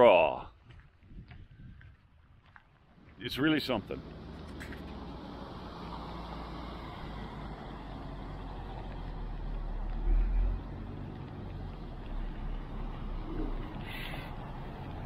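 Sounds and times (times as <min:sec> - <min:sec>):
outdoor low rumble: 0:00.4 - 0:15.0.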